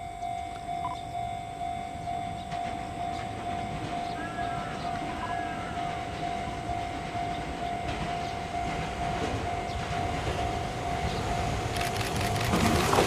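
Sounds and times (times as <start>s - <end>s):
repeating warning bell: 0.0s - 12.6s
electric train rumble: 0.0s - 13.0s.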